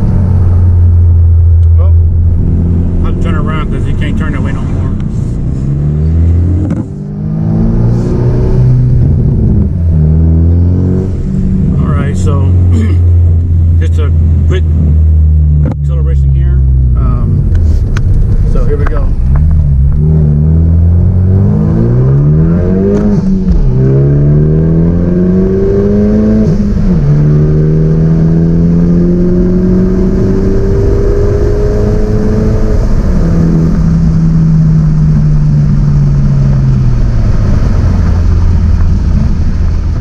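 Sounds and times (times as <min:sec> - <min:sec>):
car engine accelerating hard: 0:00.0 - 0:40.0.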